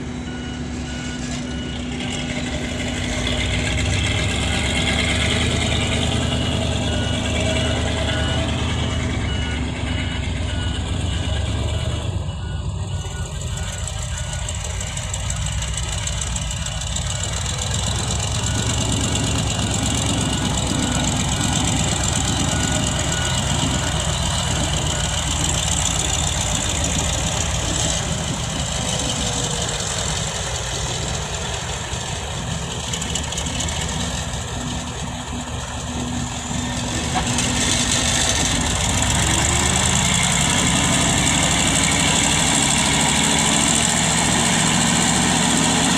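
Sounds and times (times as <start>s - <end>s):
dump truck diesel engine: 0.0s - 45.9s
reversing alarm beeping: 0.0s - 45.9s.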